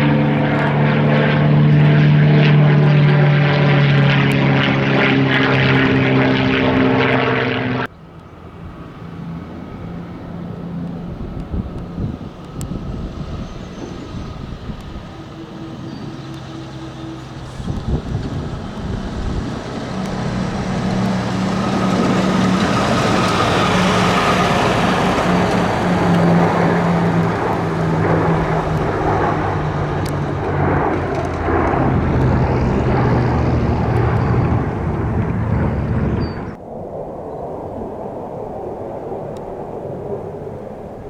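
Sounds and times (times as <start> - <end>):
aircraft engines passing: 0.0 - 41.0.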